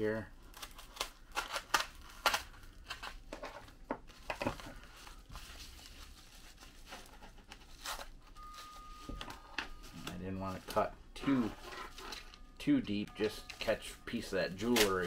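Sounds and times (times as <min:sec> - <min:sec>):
paper crinkling and rustling: 0:00.5 - 0:12.5, 0:13.2 - 0:15.0.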